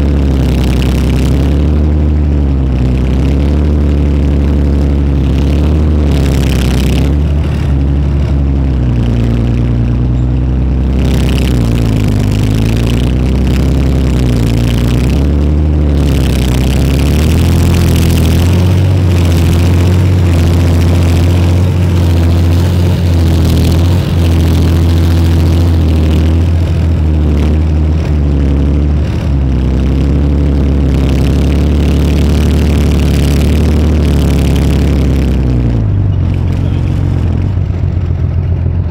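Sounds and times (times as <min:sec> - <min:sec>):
loud diesel engine running: 0:00.0 - 0:38.9.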